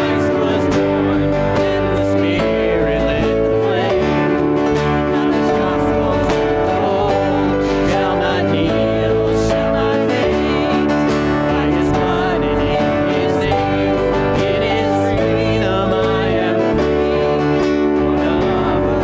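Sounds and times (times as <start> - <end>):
hymn singing: 0.0 - 19.0
instrumental accompaniment chords: 0.0 - 19.0.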